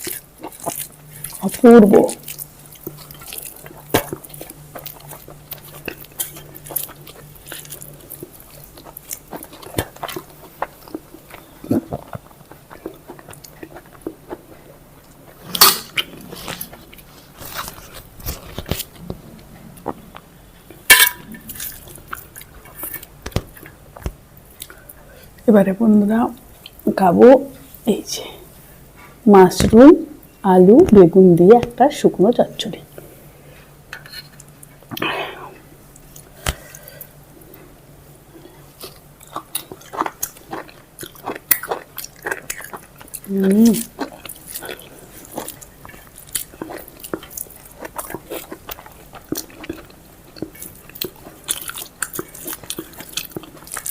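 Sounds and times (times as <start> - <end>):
person chewing: 0.0 - 25.4, 34.0 - 53.9.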